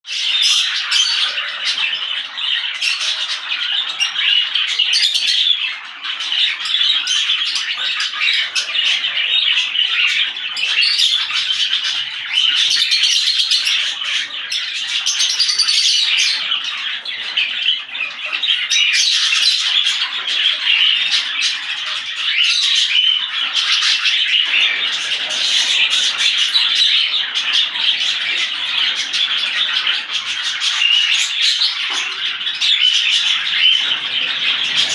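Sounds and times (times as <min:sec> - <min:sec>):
small parrots chattering: 0:00.1 - 0:34.9.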